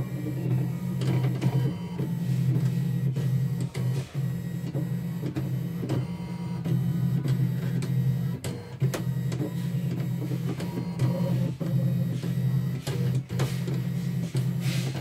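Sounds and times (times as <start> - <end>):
embroidery machine motors whirring: 0.0 - 15.0.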